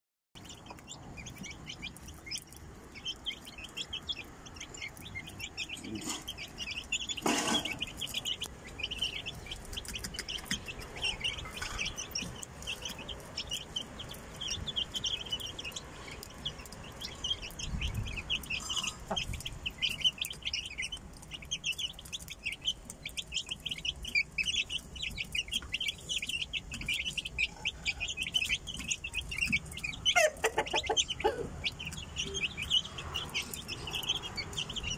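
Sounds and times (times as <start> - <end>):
chicks peeping: 0.4 - 34.9.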